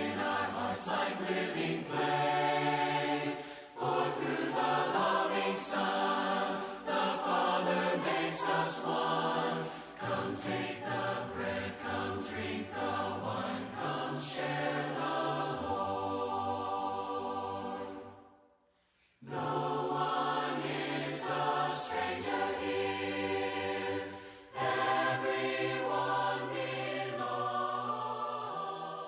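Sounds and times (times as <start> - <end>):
choir singing a hymn unaccompanied: 0.0 - 18.4, 19.2 - 29.0.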